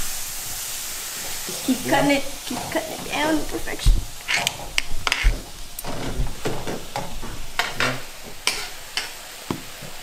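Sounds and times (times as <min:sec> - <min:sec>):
steak sizzling in a pan: 0:00.0 - 0:10.0
metal utensils scraping a pan: 0:01.2 - 0:09.3.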